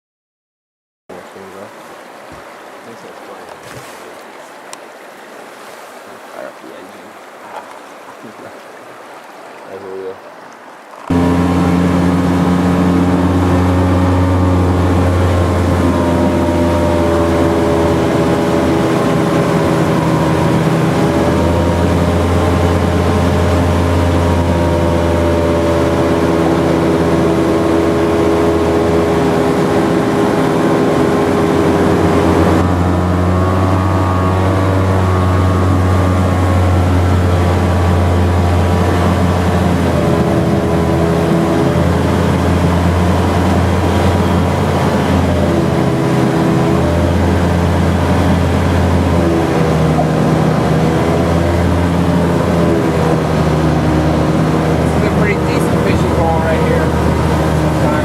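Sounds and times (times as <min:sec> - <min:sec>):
boat engine droning: 0:01.1 - 0:58.0.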